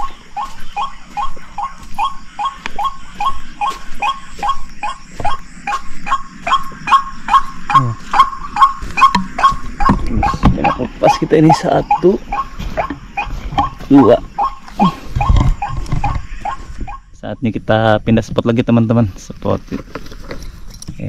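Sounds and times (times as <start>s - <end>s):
waterhen calls: 0.0s - 17.1s.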